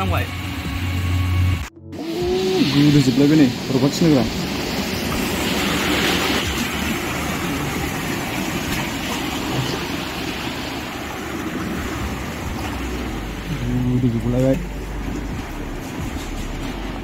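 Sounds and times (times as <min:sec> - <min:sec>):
car engine running: 0:00.0 - 0:17.0
water rushing and splashing: 0:01.9 - 0:17.0.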